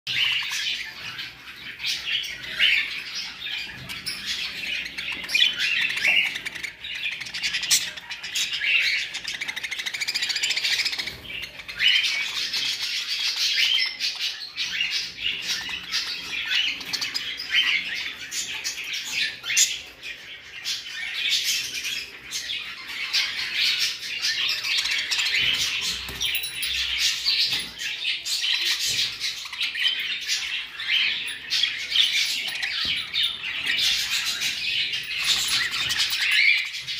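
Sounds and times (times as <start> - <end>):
budgerigars chattering: 0.1 - 36.9.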